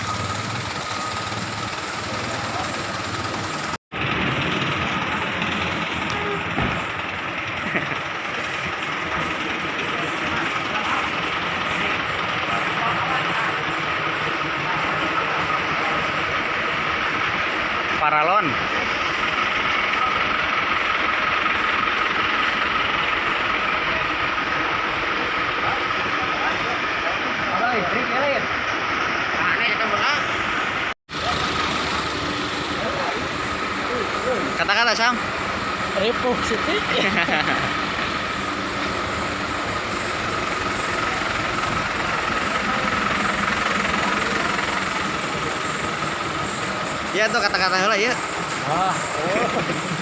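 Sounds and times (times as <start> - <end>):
road noise: 0.0 - 50.0
truck engine rumble: 0.0 - 50.0.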